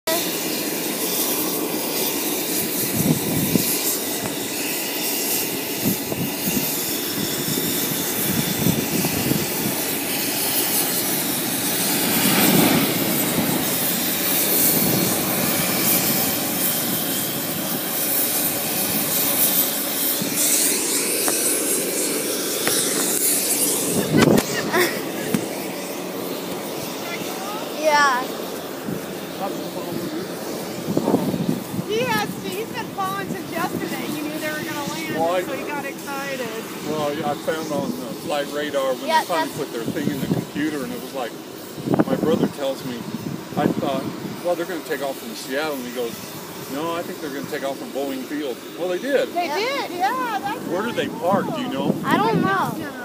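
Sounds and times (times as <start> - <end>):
jet engines running: 0.1 - 53.0.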